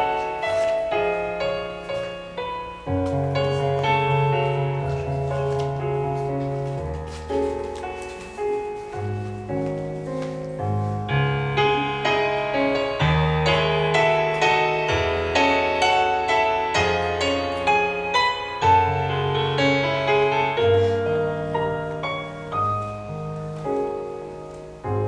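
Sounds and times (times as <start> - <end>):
piano playing: 0.0 - 25.0.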